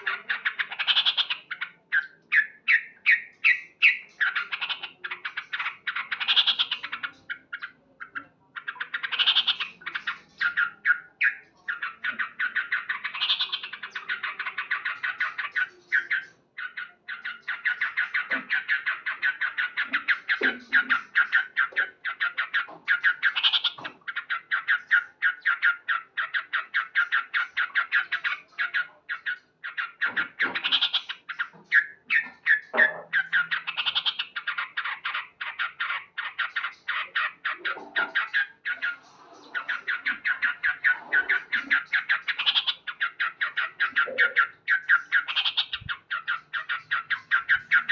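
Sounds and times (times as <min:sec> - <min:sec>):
bird chattering call: 0:00.0 - 0:47.9.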